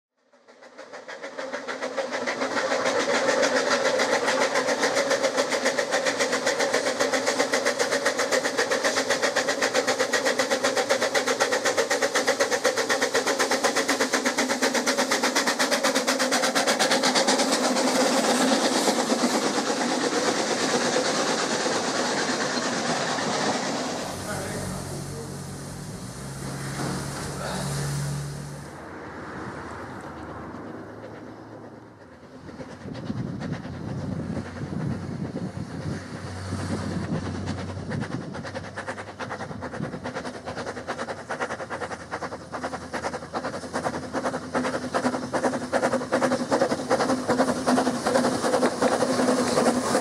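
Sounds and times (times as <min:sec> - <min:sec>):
steam locomotive exhaust beating: 0:00.2 - 0:50.0
train coaches rolling past: 0:00.2 - 0:50.0.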